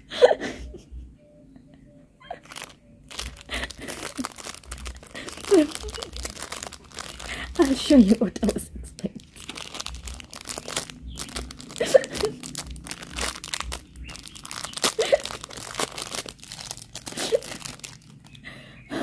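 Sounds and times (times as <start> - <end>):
plastic packaging crinkling and tearing: 2.3 - 18.5.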